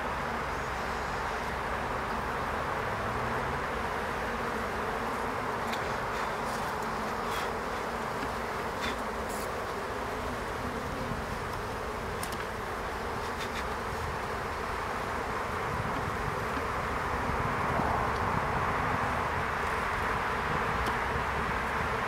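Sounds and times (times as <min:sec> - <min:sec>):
honeybees humming: 0:00.0 - 0:22.0.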